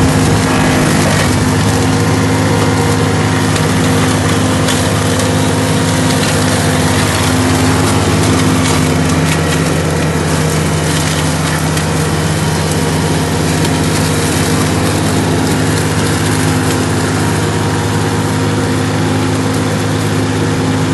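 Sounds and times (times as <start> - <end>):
woody material cracking: 0.0 - 17.1
flail mower chopping vegetation: 0.0 - 20.9
skid steer engine running: 0.0 - 20.9.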